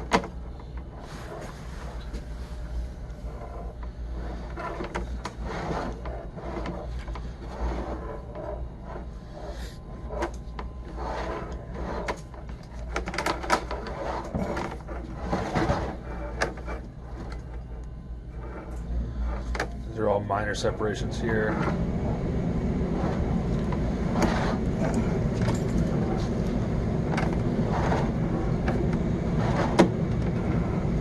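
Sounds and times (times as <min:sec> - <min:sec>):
cable scraping and rattling: 0:00.0 - 0:31.0
steady low hum: 0:00.0 - 0:31.0.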